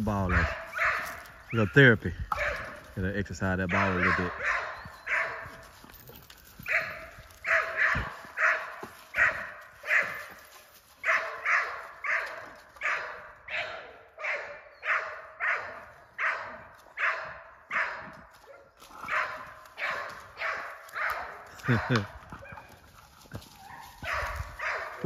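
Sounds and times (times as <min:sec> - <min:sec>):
dog barking: 0:00.2 - 0:01.7, 0:02.3 - 0:02.8, 0:03.6 - 0:05.6, 0:06.6 - 0:10.4, 0:11.0 - 0:22.7, 0:23.6 - 0:25.0.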